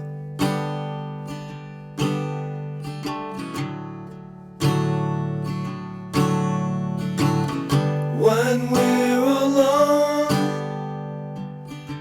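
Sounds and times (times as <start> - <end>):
strummed guitar chords: 0.0 - 12.0.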